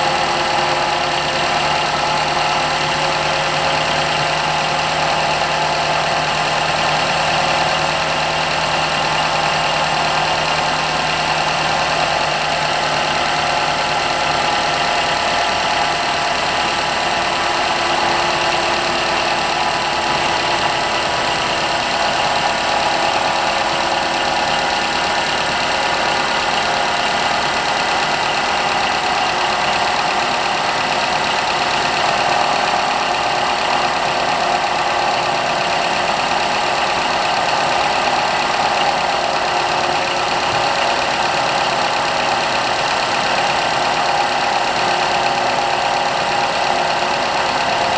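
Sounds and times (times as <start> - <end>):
car engine idling: 0.0 - 47.9
drive belt whine: 0.0 - 47.9.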